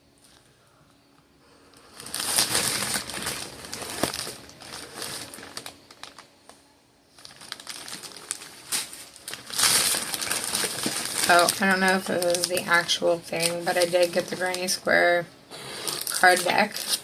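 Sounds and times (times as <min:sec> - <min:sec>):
plastic packaging crinkling: 0:01.8 - 0:17.0.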